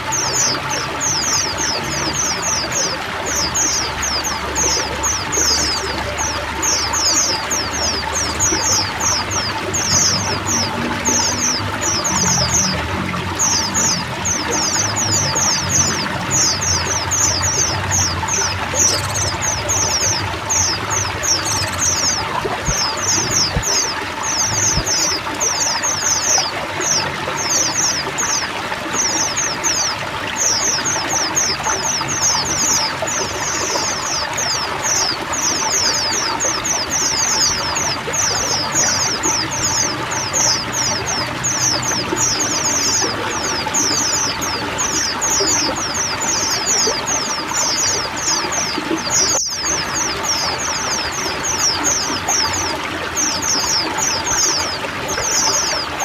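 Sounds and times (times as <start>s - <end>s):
birds chattering in high chirps: 0.0s - 56.0s
running water rushing: 0.0s - 56.0s.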